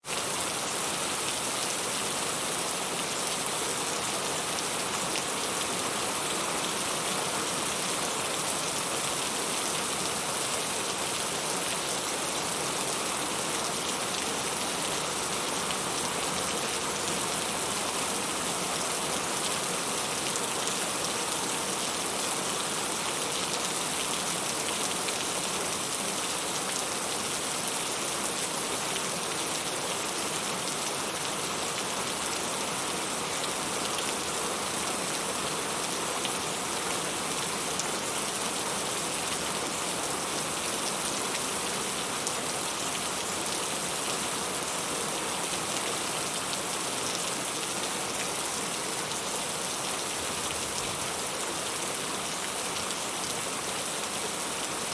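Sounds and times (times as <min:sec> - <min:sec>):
heavy rain falling: 0:00.1 - 0:54.9.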